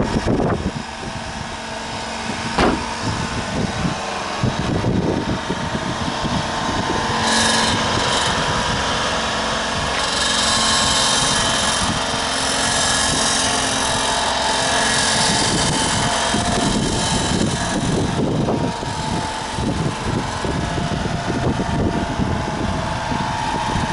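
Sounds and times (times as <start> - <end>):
truck engine running with whine: 0.0 - 23.9.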